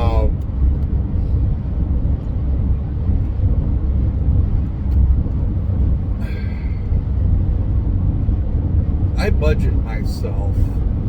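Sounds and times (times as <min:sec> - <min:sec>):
vehicle rumble from inside cab: 0:00.0 - 0:11.0.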